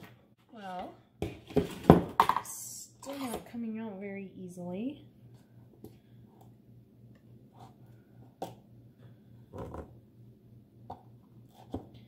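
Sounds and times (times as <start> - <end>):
low steady hum: 2.3 - 12.0.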